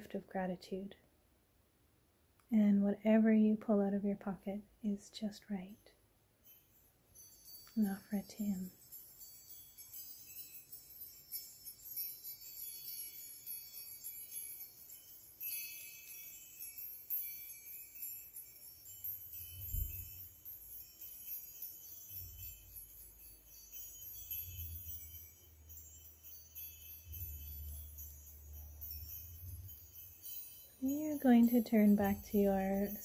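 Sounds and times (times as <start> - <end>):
chimes tinkling: 6.4 - 33.0.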